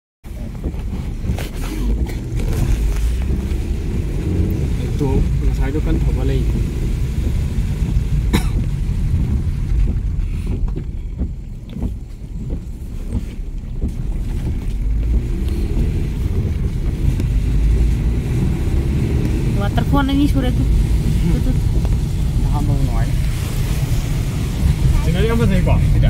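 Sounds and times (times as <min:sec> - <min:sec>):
road and engine noise: 0:00.2 - 0:26.0
wind buffeting microphone: 0:00.3 - 0:26.0.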